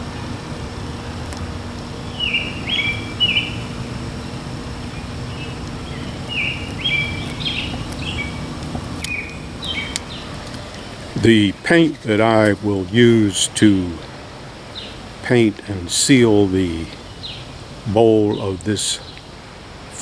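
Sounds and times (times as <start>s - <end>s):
low outdoor background noise: 0.0s - 20.0s
small birds chirping: 0.0s - 20.0s.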